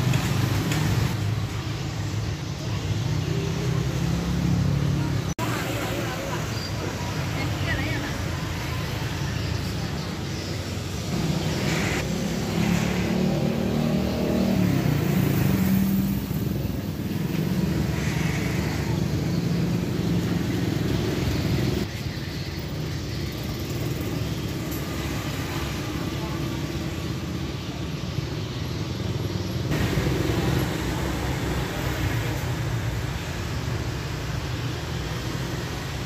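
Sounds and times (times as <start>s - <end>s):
motor vehicle traffic: 0.0s - 36.0s.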